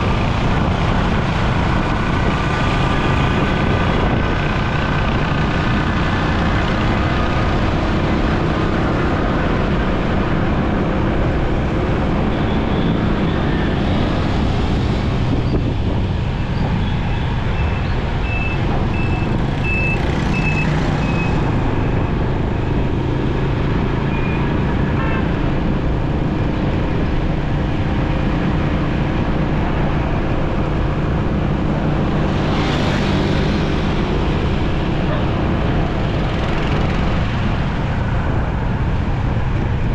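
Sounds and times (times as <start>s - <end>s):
road noise: 0.0s - 39.9s
traffic engines: 0.0s - 39.9s.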